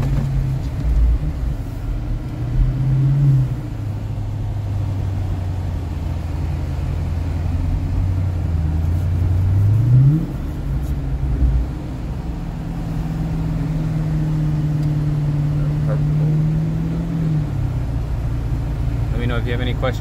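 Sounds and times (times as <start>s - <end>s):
car engine drone from inside: 0.0s - 20.0s.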